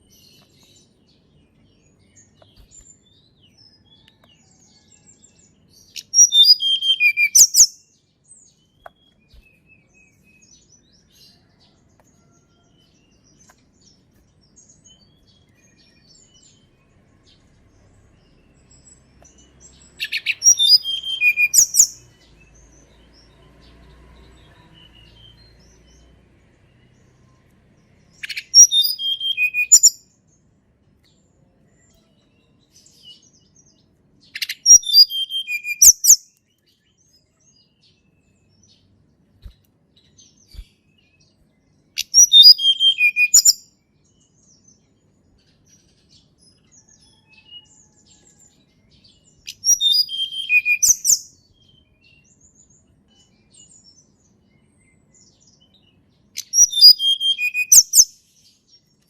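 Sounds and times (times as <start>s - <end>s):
small songbird singing: 0.0s - 59.0s.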